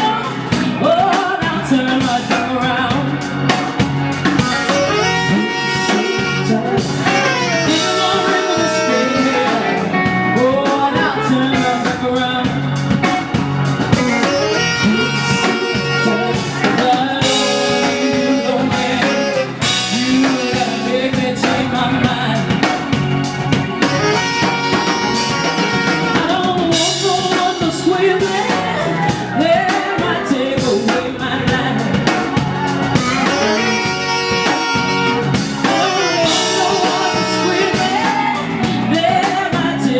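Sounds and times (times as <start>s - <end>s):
blues band playing: 0.0s - 39.9s
person singing: 0.0s - 39.9s.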